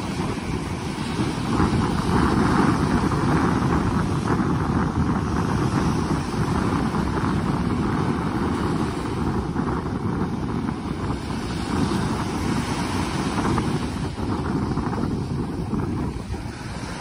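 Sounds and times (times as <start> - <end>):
small waves washing on sand: 0.0 - 17.0
wind noise on microphone: 0.0 - 17.0.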